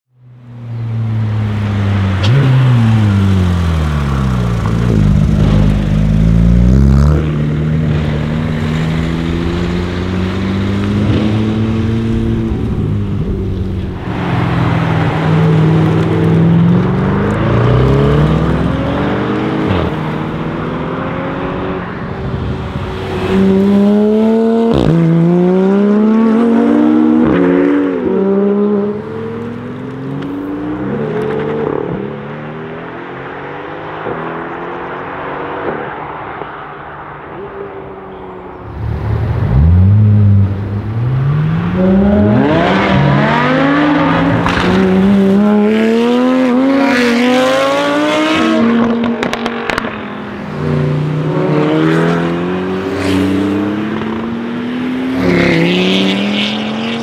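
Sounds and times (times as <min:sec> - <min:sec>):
car engines accelerating hard: 0:00.4 - 0:57.0.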